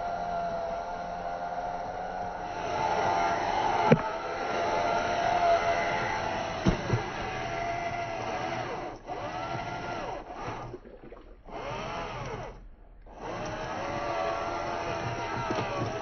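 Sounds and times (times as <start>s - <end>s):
toy vehicle electric motor whining: 0.0s - 10.7s, 13.2s - 16.0s.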